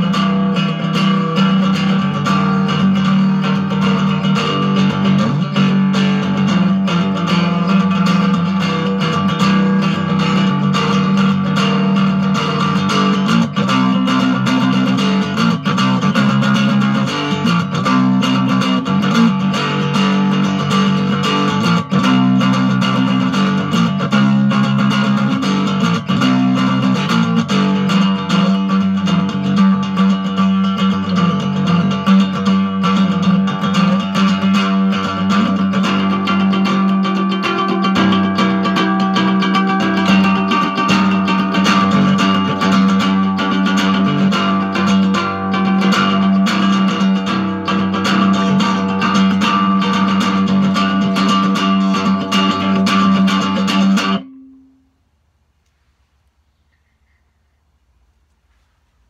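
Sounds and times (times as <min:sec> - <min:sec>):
cigar box guitar strummed: 0:00.0 - 0:55.0.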